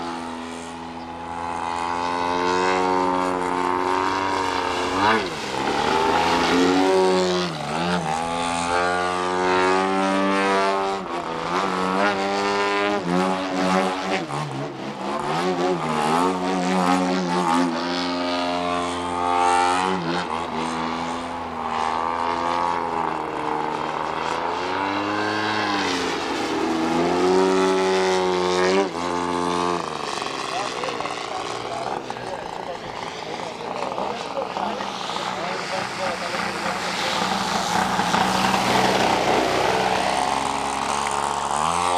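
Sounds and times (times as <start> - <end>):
model plane engine and propeller: 0.0 - 41.9.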